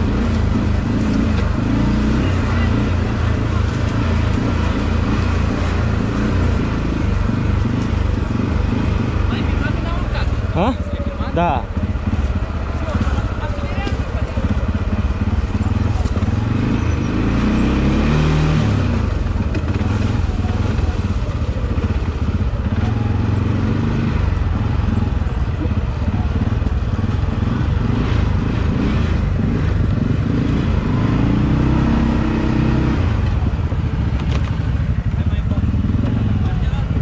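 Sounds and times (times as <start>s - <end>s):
quad engine revving: 0.0s - 34.7s.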